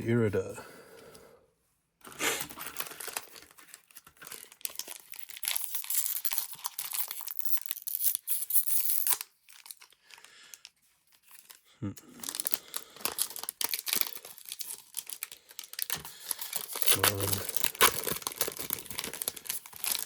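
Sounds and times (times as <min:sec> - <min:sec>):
foil wrapper tearing and crinkling: 0:02.0 - 0:20.0.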